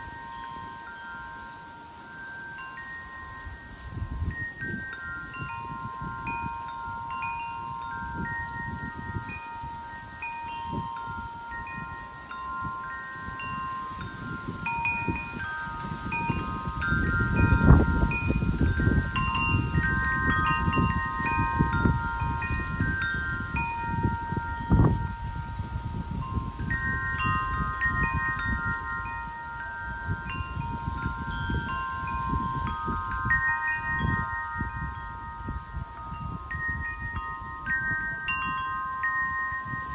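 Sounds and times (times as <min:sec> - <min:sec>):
wind chimes ringing: 0:00.0 - 0:39.9
wind gusts rumbling: 0:03.1 - 0:39.9.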